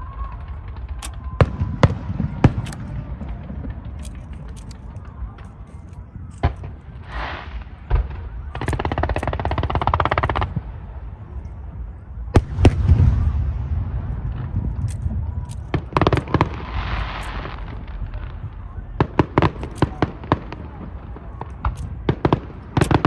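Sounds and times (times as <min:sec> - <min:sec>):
rapid firework crackling: 0:00.0 - 0:11.2, 0:12.4 - 0:23.0
low rumble: 0:00.0 - 0:22.8
fireworks bangs: 0:00.0 - 0:23.0.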